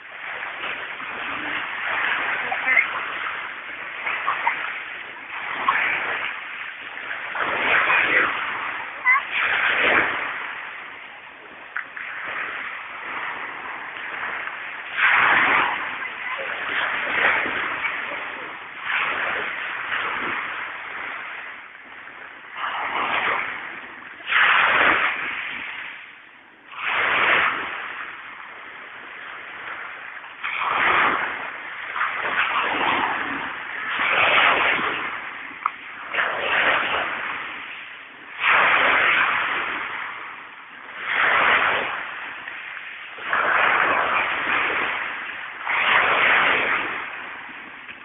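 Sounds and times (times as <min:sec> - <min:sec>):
waves washing over pebble beach: 0:00.0 - 0:48.0.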